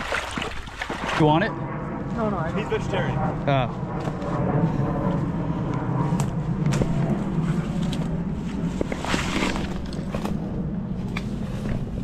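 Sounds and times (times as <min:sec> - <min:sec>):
steady low rumble: 0:00.1 - 0:12.0.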